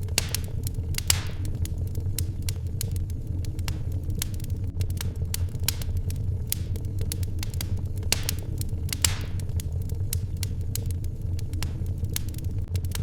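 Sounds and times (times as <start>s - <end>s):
low rumble of fire: 0.0s - 13.0s
wood fire crackling and popping: 0.0s - 13.0s.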